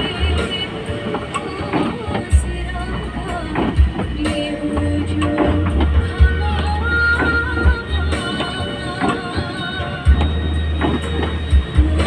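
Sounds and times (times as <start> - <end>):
music with deep bass beat: 0.0 - 12.0.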